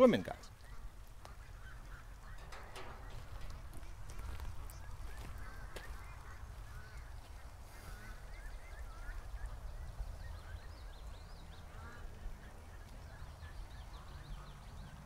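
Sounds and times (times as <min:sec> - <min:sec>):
ducks quacking: 0:00.0 - 0:15.0
geese honking: 0:00.0 - 0:15.0.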